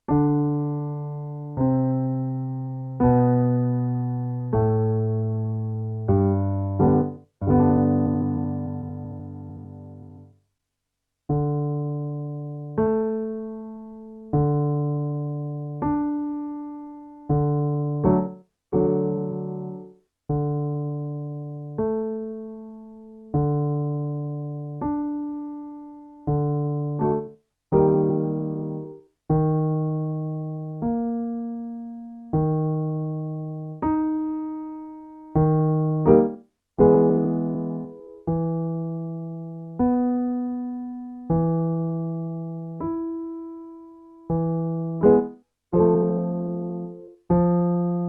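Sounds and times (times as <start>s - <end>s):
piano notes and chords: 0.0s - 10.3s, 11.3s - 48.0s.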